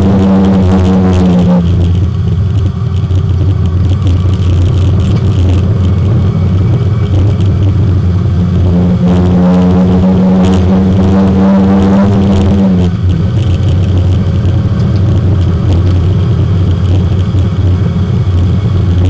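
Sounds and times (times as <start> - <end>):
race car engine: 0.0 - 19.0.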